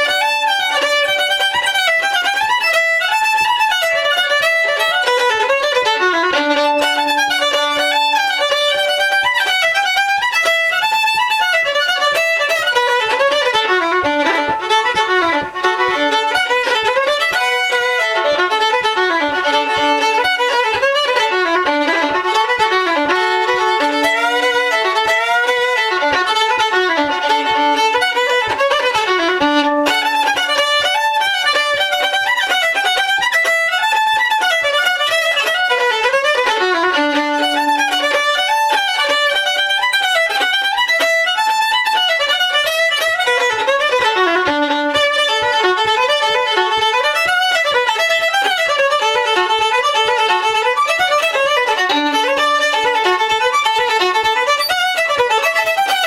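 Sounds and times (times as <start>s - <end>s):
fiddle playing a fast reel: 0.0s - 56.0s.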